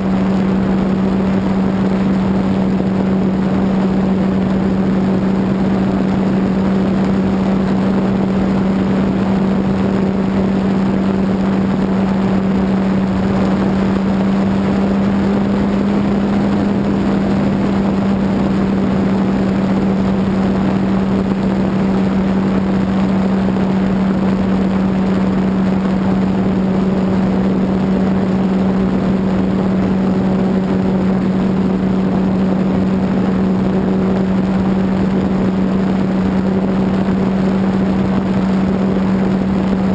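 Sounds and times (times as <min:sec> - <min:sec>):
electric propeller motor hum: 0:00.0 - 0:39.9
rushing wind noise: 0:00.0 - 0:39.9.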